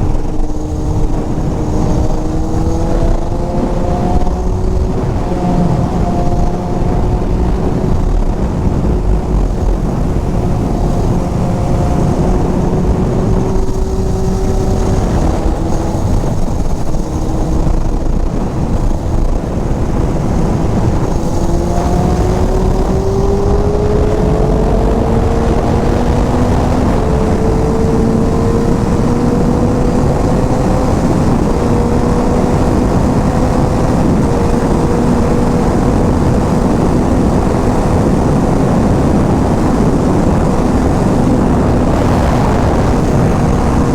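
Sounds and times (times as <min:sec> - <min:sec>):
motorcycle engine at speed: 0:00.0 - 0:43.9
wind rush: 0:00.0 - 0:43.9.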